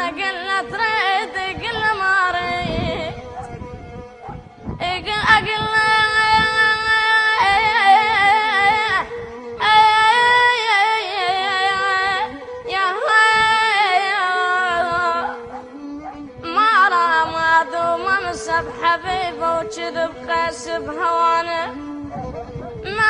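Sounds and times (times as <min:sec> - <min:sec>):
child singing unaccompanied: 0:00.0 - 0:23.0.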